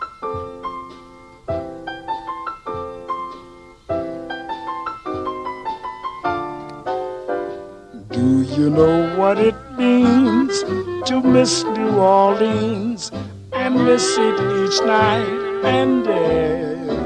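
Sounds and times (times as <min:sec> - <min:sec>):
piano chords and runs: 0:00.0 - 0:17.0.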